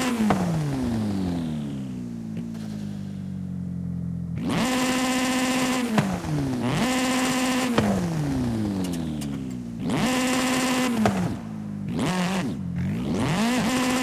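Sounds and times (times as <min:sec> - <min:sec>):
game car engine revving: 0:00.0 - 0:14.0.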